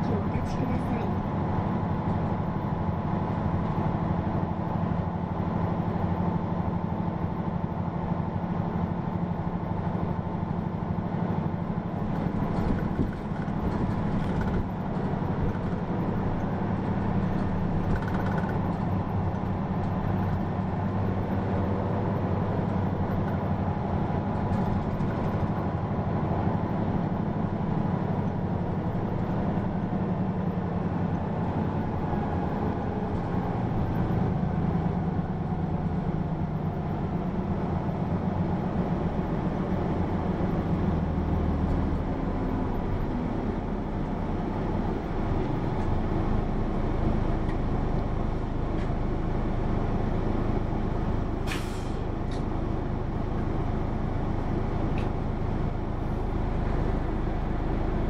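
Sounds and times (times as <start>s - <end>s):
bus diesel engine humming: 0.0s - 58.0s
road noise: 0.0s - 58.0s.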